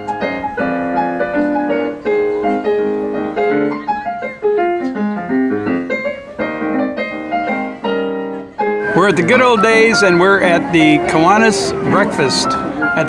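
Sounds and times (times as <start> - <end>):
ragtime on digital piano: 0.0 - 13.0.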